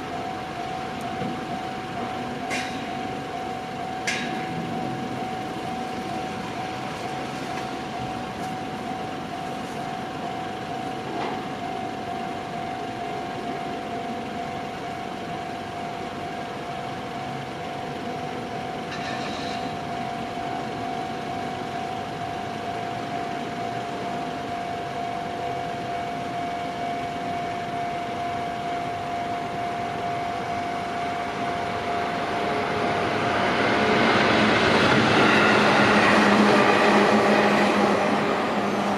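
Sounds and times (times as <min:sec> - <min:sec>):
level crossing alarm bell: 0:00.0 - 0:33.8
train running noise: 0:00.0 - 0:38.9.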